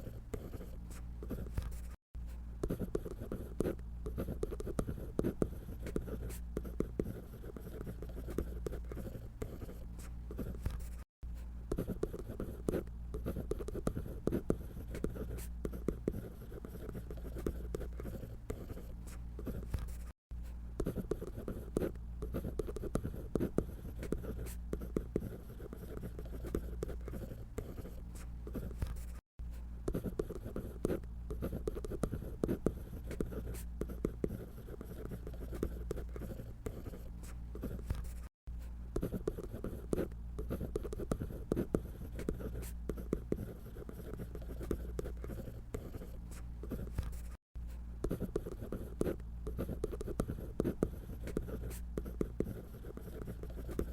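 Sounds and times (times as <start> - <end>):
pencil scratching on paper: 0.0 - 29.2, 29.9 - 53.9.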